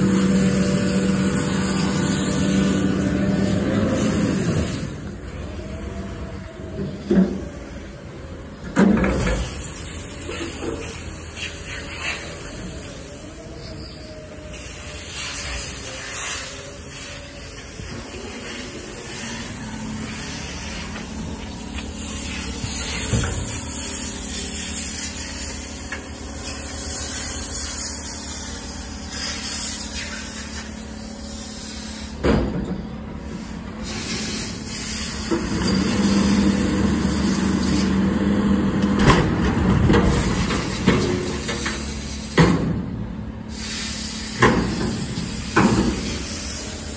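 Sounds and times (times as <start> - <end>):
hydraulic arm lifting: 0.0 - 42.8
garbage truck running: 0.0 - 46.9.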